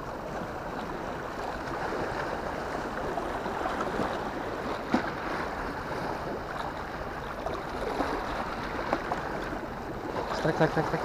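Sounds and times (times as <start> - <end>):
sea water lapping: 0.0 - 11.0.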